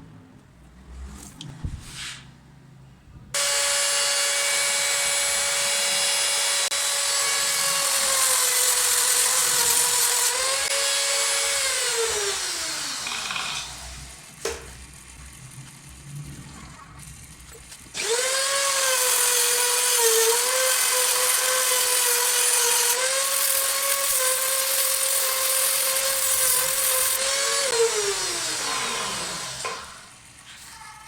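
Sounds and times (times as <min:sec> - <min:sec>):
rotary tool whining: 0:03.4 - 0:14.3, 0:15.0 - 0:30.2.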